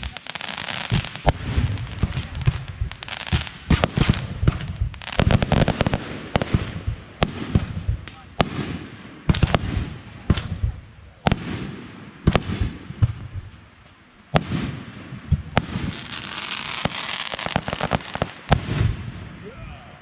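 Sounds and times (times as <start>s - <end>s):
fireworks crackling: 0.0s - 19.4s
fireworks booming: 0.0s - 19.5s.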